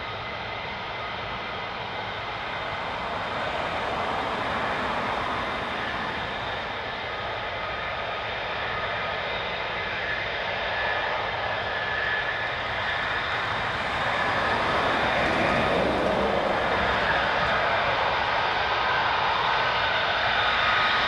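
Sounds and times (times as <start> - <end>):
jet engines at taxi power: 0.0 - 21.0.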